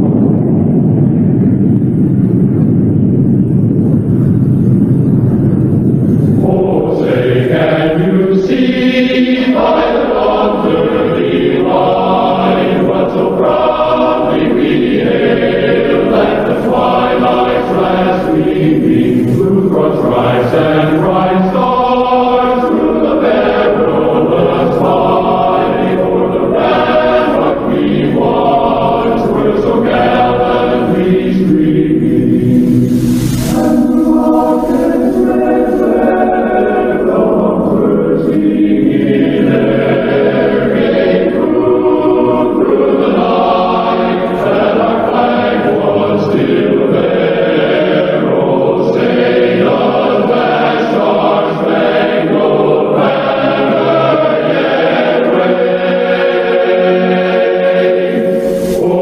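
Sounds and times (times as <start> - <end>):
low rumble: 0.0 - 51.6
choir singing: 6.3 - 59.0.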